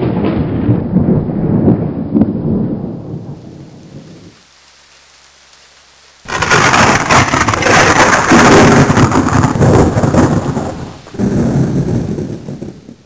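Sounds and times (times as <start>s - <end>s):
thunderclap rumbling: 0.0s - 4.4s, 6.2s - 13.0s.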